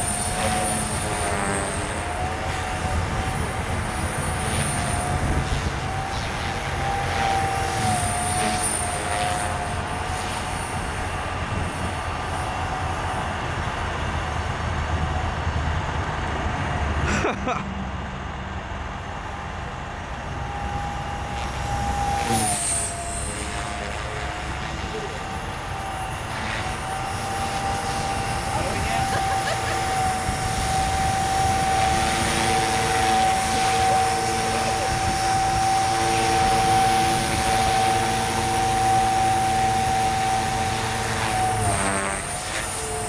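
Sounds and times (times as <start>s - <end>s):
model helicopter rotor whine: 0.0s - 43.0s.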